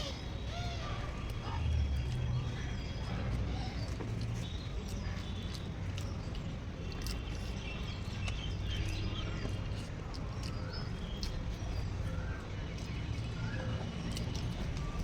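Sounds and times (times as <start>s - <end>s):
chewing clicks and smacks: 0.8s - 15.0s.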